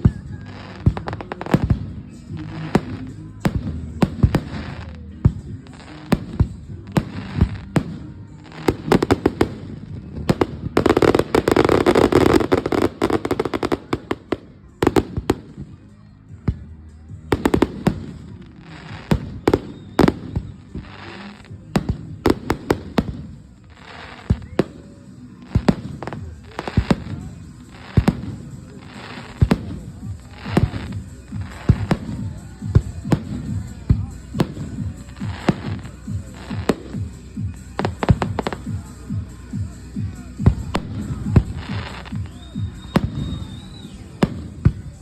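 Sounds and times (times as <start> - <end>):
fireworks hissing: 0.0 - 16.0, 16.7 - 45.0
fireworks bangs and cracks: 0.0 - 45.0
fireworks crackling: 0.0 - 45.0.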